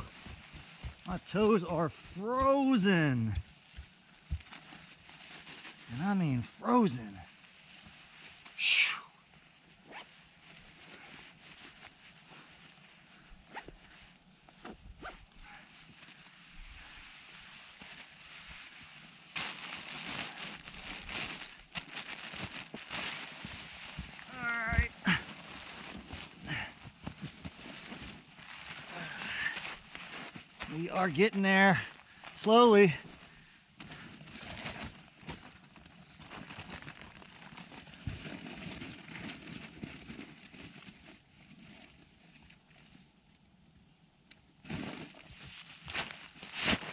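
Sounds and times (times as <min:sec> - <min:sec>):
nylon gear rustling and crinkling: 0:00.0 - 0:08.6, 0:09.2 - 0:43.3, 0:44.6 - 0:46.9.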